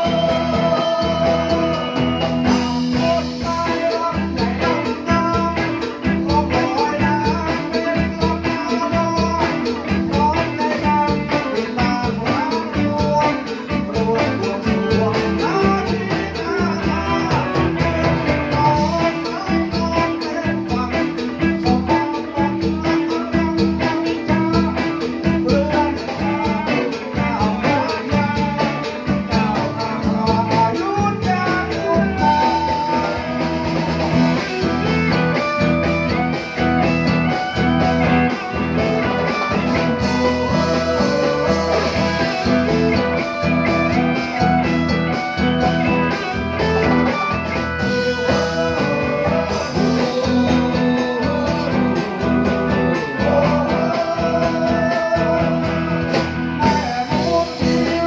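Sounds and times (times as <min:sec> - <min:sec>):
live band music: 0:00.0 - 0:58.0
plucked guitar: 0:00.0 - 0:58.0.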